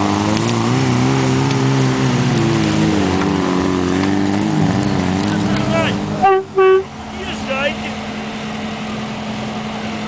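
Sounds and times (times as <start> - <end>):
suv engine revving hard: 0.0 - 8.2.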